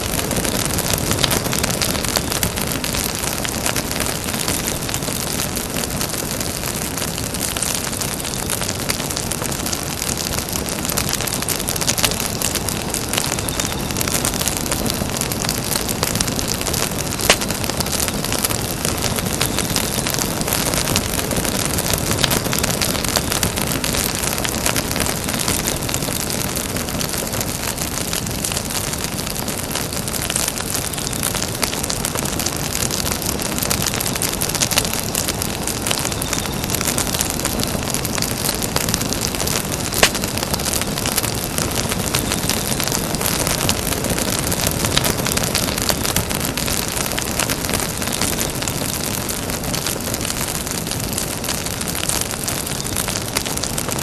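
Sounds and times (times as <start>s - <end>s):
fire crackles and pops: 0.0s - 54.0s
hiss of flames: 0.0s - 54.0s.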